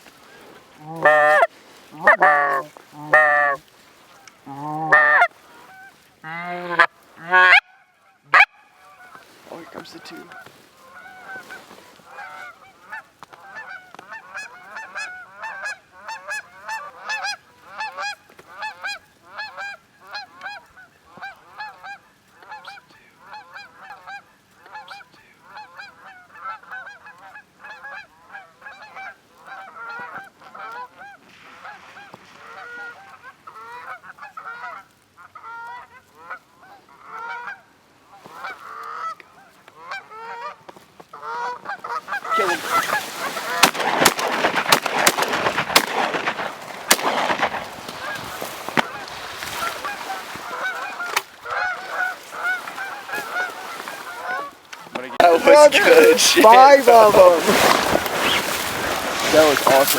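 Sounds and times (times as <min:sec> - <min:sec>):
goose honking: 0:00.3 - 0:37.7, 0:38.3 - 0:59.9.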